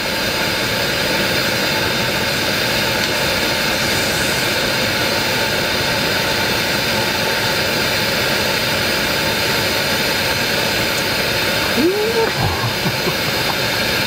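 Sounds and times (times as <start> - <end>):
heater burner roaring hiss: 0.0 - 14.0.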